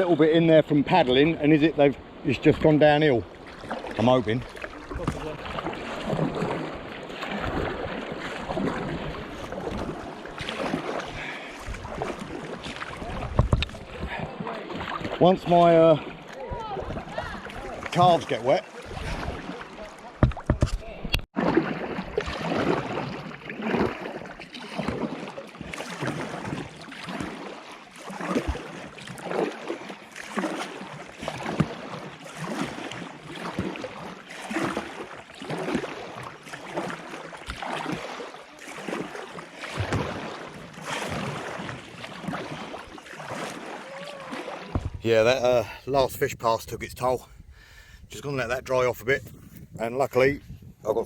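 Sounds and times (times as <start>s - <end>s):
canoe paddle splashing: 0.0s - 50.0s.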